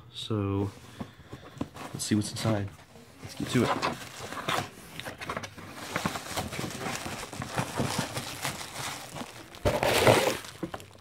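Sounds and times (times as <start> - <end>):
packing paper rustling: 0.9 - 11.0.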